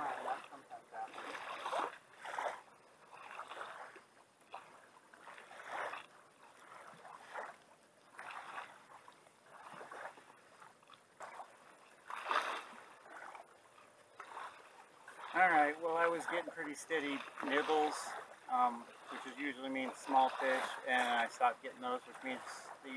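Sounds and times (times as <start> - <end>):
rustling and scraping in kayak: 0.0 - 22.9.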